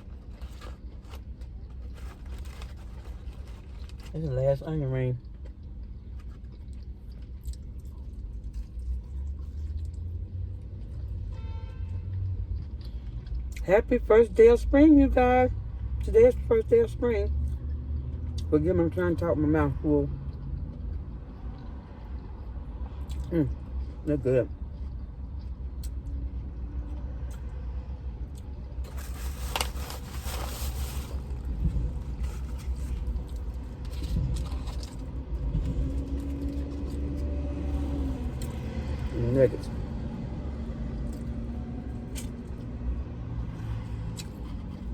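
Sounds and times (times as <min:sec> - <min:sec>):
vehicle engine rumble: 0:00.0 - 0:44.9.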